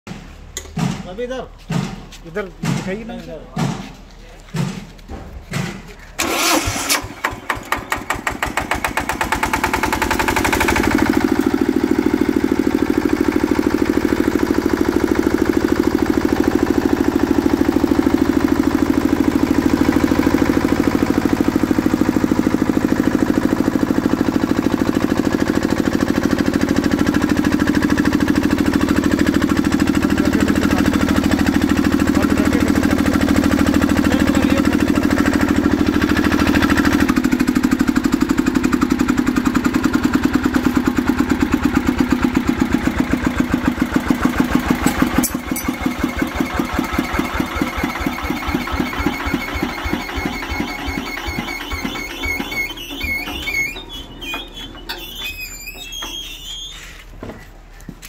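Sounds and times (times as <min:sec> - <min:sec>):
diesel engine running: 0:00.1 - 0:58.0
electric starter: 0:06.1 - 0:57.1.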